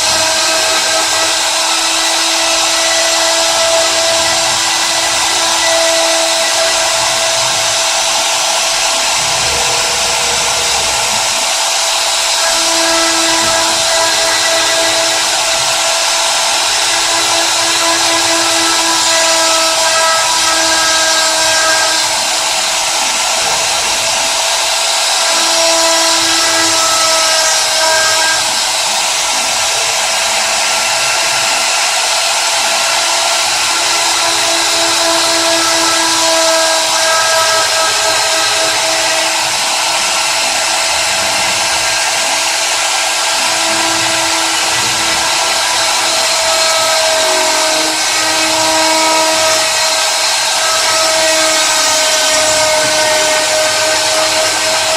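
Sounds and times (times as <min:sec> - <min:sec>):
cnc router motor whine: 0:00.0 - 0:54.9.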